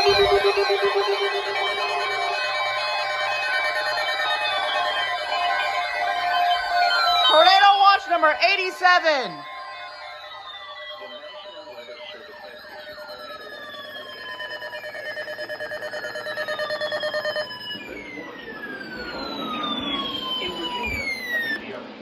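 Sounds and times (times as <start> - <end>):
fast-pulsing tone: 0.0 - 21.8
sirens wailing: 0.0 - 22.0.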